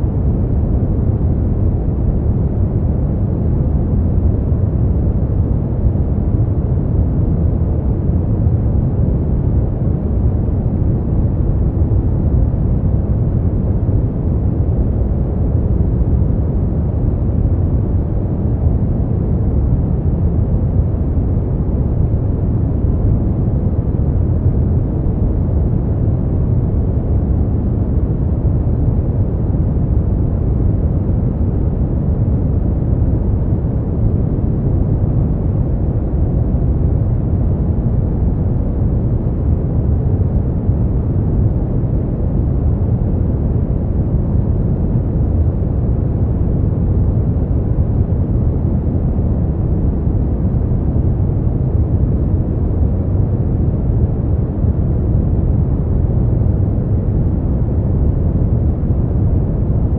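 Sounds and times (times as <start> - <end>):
deep low rumbling noise: 0.0 - 59.9.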